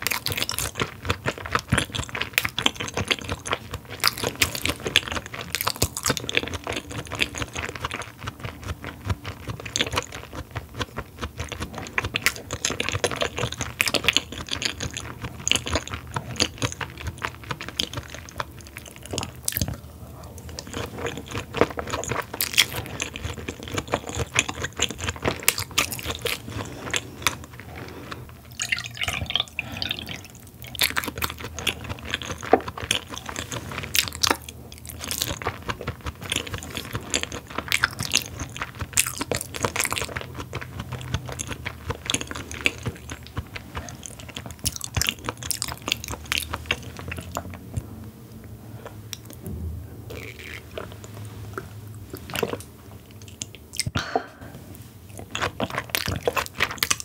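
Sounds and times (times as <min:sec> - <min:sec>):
wet chewing and mouth smacking: 0:00.0 - 0:57.0.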